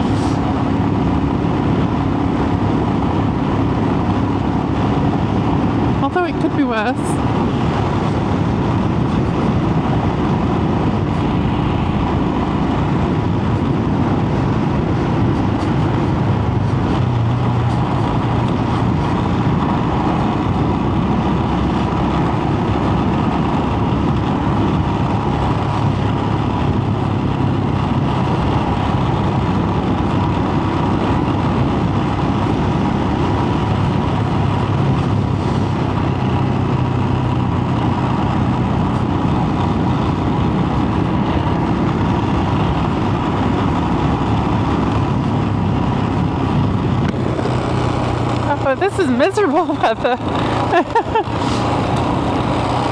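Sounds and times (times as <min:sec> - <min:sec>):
motorcycle engine running: 0:00.0 - 0:52.9
wind rush: 0:00.0 - 0:52.9.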